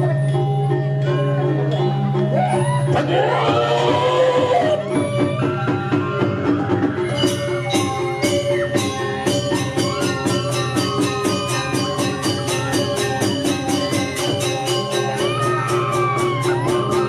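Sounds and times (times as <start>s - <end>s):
gamelan playing: 0.0s - 4.0s, 6.2s - 17.0s.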